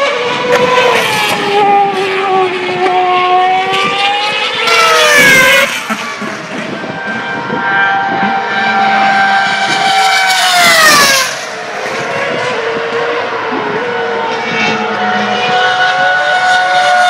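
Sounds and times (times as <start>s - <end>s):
racing car engine passing by: 0.0s - 17.0s.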